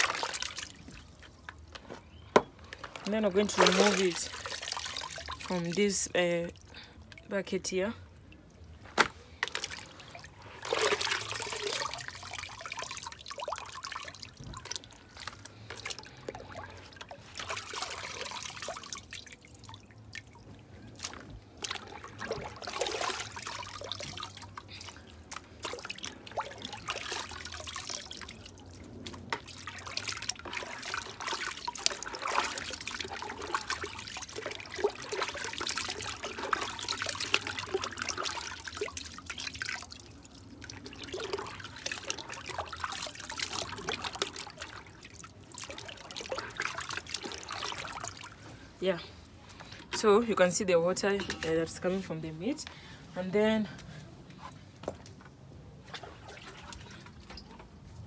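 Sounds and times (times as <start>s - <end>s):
sharp water splashes: 0.0s - 1.2s, 2.7s - 48.4s
meat sloshing in bucket of water: 0.0s - 7.2s, 8.2s - 48.6s, 55.7s - 57.8s
water dripping into bucket: 0.0s - 48.4s.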